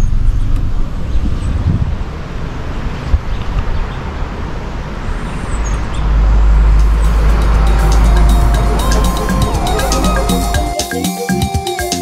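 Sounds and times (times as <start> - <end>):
car road noise rumble: 0.0 - 9.7.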